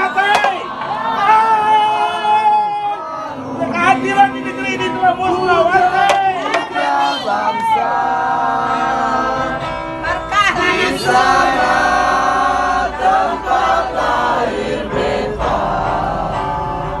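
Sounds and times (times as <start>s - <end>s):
crowd singing in unison: 2.9s - 17.0s.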